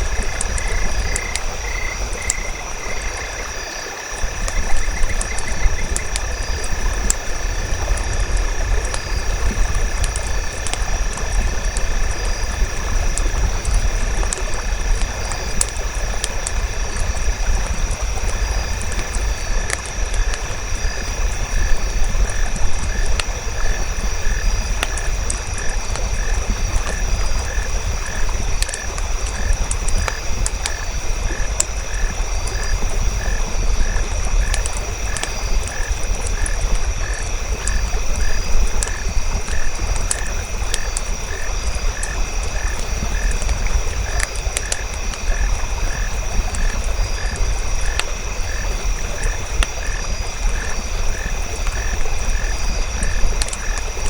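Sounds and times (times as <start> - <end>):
frog croaking: 0.0 - 10.8, 17.8 - 54.0
campfire crackling: 0.0 - 54.0.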